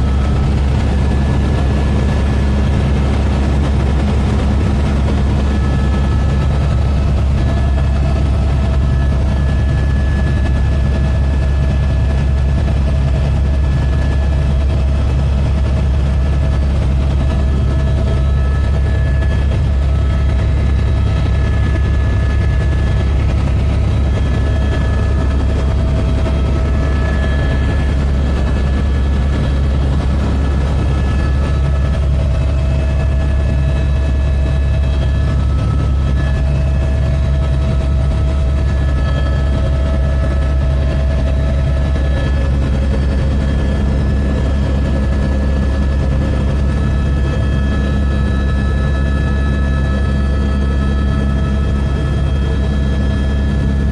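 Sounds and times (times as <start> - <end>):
helicopter rotor and engine drone: 0.0 - 53.9
turbine whine: 0.0 - 53.9.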